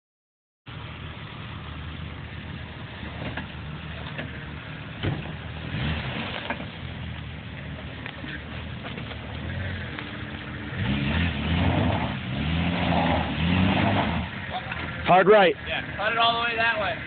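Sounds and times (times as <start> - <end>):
engine running at low revs: 0.7 - 17.0.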